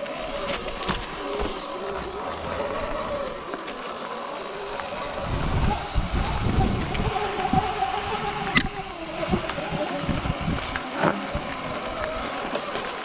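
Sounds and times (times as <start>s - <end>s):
electric motor whine: 0.0s - 13.0s
tyre and wind noise: 0.0s - 13.0s.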